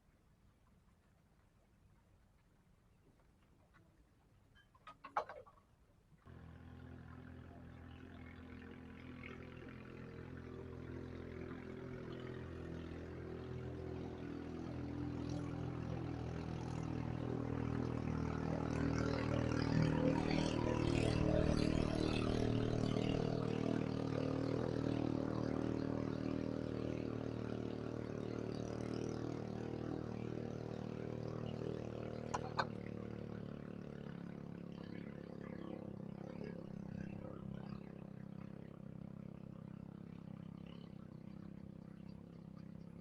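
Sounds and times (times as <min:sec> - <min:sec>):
river boat engine running: 0:06.3 - 0:43.0.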